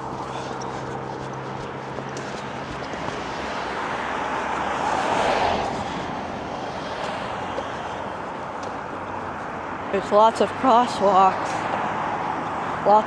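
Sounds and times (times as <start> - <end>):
car passing by: 0.0 - 12.9.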